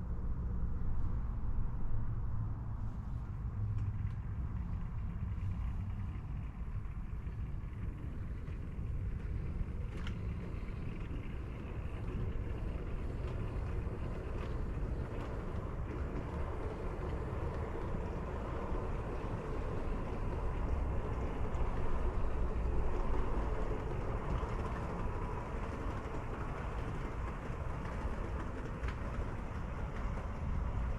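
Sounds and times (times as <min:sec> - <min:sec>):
model train rumbling: 0:03.6 - 0:30.9.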